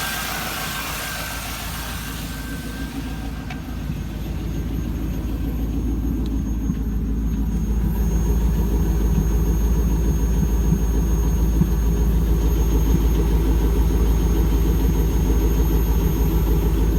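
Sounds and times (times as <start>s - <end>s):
car engine idling: 0.0s - 16.9s
engine ticking: 0.0s - 16.9s.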